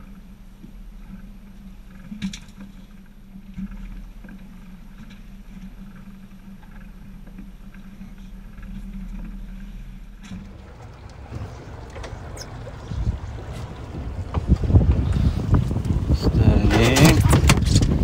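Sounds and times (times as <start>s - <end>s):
outboard motors humming: 0.0s - 18.0s.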